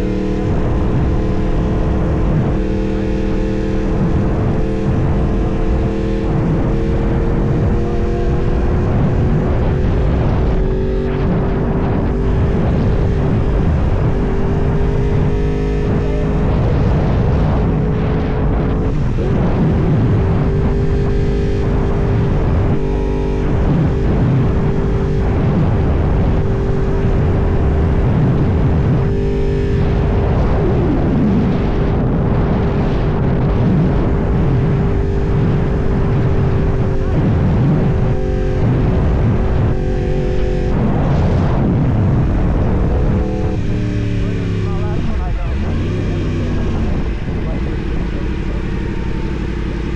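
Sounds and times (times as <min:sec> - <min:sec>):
motorcycle engine running: 0:00.0 - 0:49.9
wind rumble on microphone: 0:00.0 - 0:49.9.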